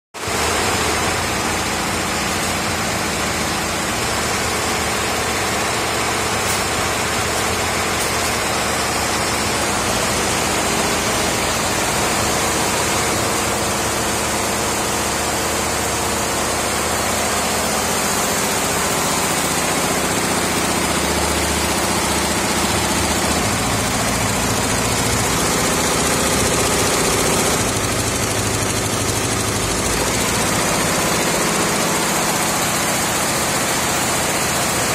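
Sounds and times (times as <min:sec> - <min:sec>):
embroidery machine running: 0:00.2 - 0:34.9.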